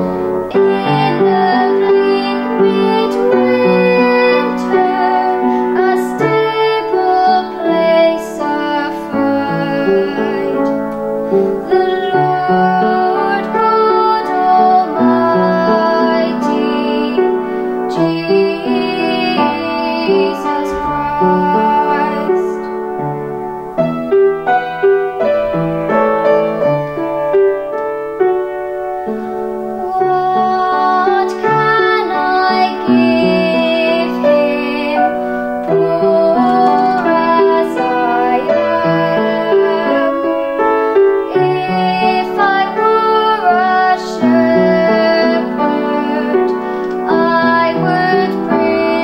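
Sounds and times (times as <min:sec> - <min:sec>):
girl singing: 0:00.0 - 0:23.2, 0:24.4 - 0:49.0
piano accompaniment: 0:00.0 - 0:49.0.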